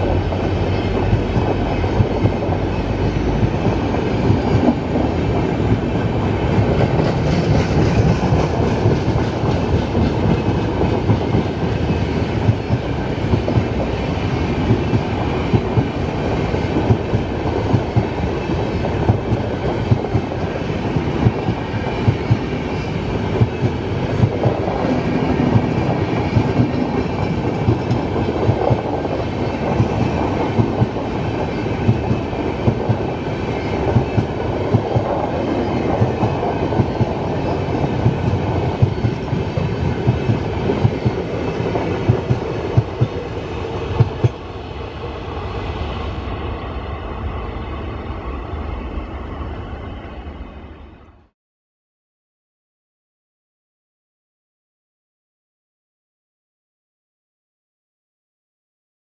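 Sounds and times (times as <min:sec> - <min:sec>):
train wheels rumbling on rails: 0:00.0 - 0:51.2.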